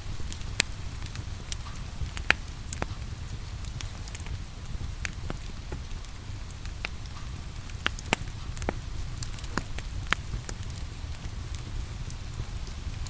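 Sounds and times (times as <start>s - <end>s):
rain hissing: 0.0s - 13.0s
wood fire crackling and popping: 0.0s - 13.0s.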